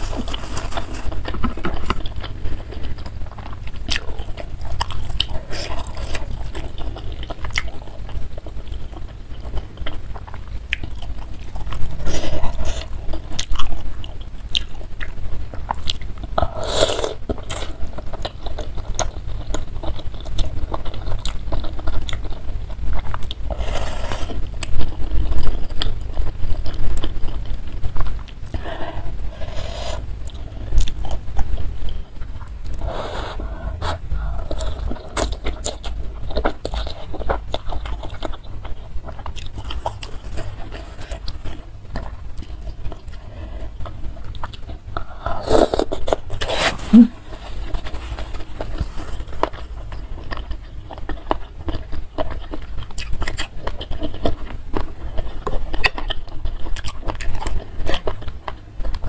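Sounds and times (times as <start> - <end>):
steady low hum: 0.0 - 59.0
wet chewing: 0.0 - 59.0.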